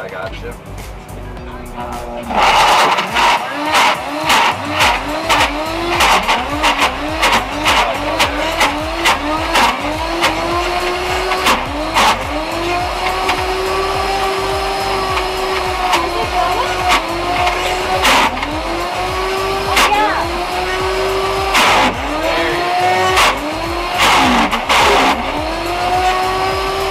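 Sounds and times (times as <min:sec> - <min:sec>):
blender motor running: 0:02.3 - 0:26.9.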